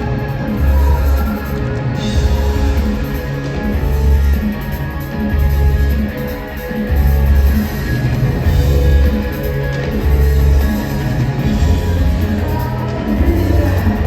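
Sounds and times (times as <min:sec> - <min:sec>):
heavy bass line: 0:00.0 - 0:14.0
live rock band playing: 0:00.0 - 0:14.0.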